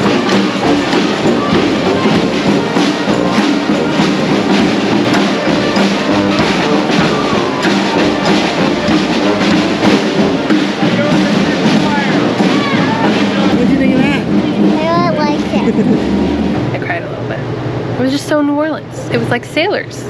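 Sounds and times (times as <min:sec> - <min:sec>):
parade band playing: 0:00.0 - 0:19.7
drums beating: 0:00.0 - 0:20.0.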